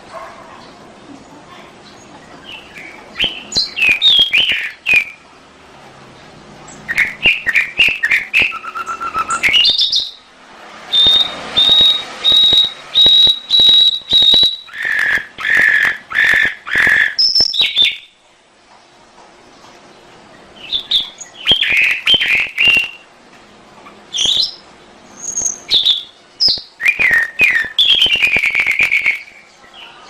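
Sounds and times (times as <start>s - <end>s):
canary singing: 1.8s - 5.3s, 6.2s - 18.2s, 20.3s - 23.2s, 23.8s - 30.0s.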